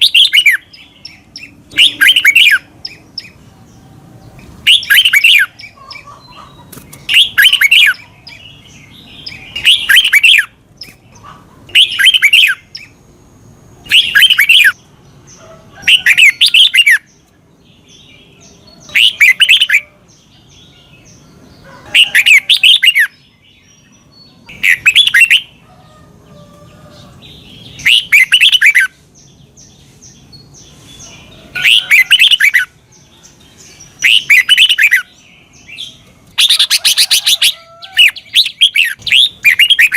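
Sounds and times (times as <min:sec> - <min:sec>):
bird singing warbling phrases: 0:00.0 - 0:39.9.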